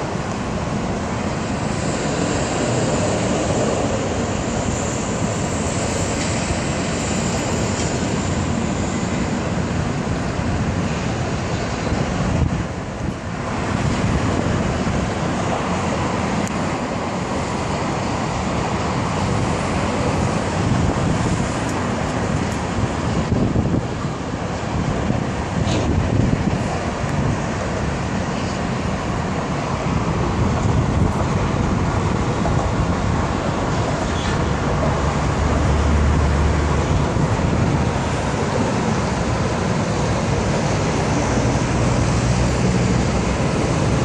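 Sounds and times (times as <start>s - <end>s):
road traffic noise: 0.0s - 44.0s
wind on microphone: 0.0s - 44.0s.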